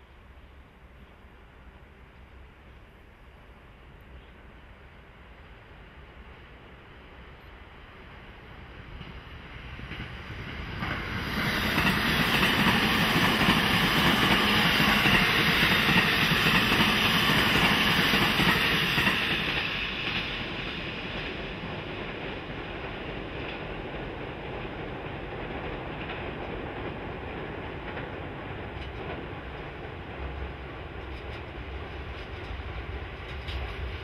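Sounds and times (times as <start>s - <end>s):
freight train crossing a bridge: 0.0s - 34.0s
passenger train passing: 0.0s - 34.0s.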